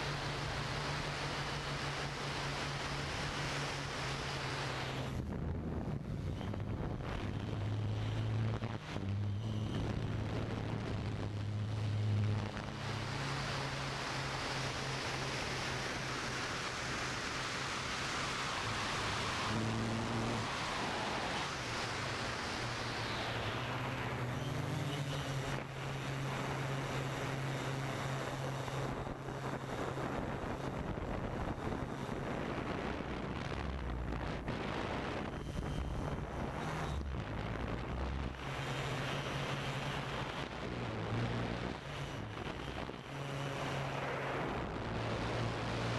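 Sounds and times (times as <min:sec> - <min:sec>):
drone propellers humming: 0:00.0 - 0:45.9
wind on microphone: 0:00.1 - 0:45.9.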